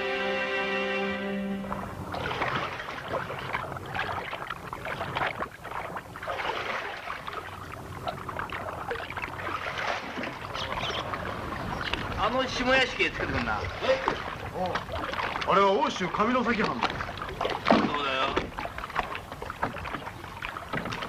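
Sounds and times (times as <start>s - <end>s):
water splashing from rowing: 1.4s - 21.0s.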